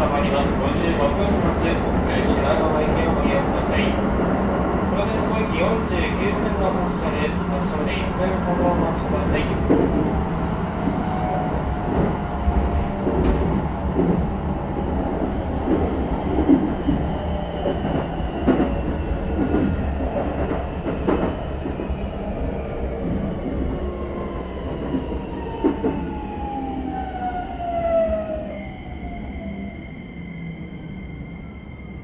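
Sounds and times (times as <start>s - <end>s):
train inverter whine: 0.0s - 32.0s.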